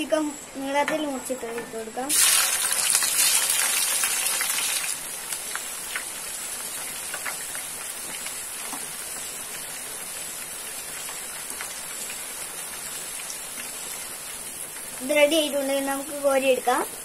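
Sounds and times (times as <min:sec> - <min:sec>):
vegetables deep-frying in oil: 0:00.3 - 0:17.0
oil crackles: 0:02.1 - 0:16.7.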